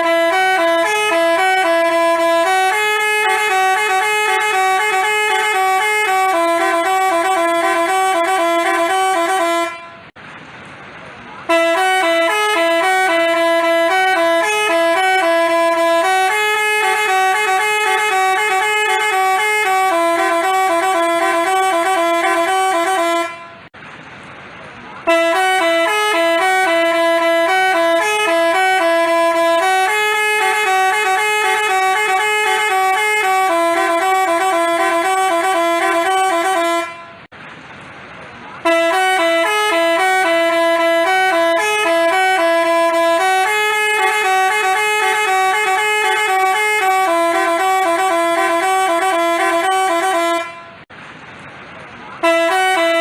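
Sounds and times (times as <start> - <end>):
bus horn playing a melody: 0.0 - 10.2, 11.4 - 23.8, 25.0 - 37.3, 38.6 - 50.9, 52.2 - 53.0.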